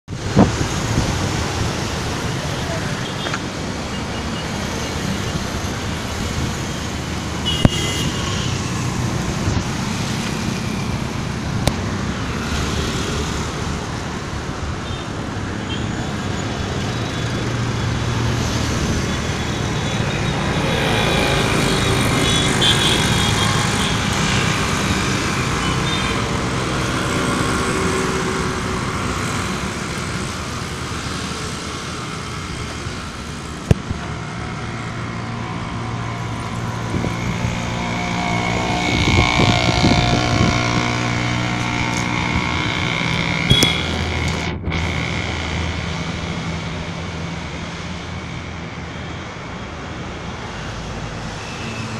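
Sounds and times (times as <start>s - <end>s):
road traffic: 0.0s - 51.9s.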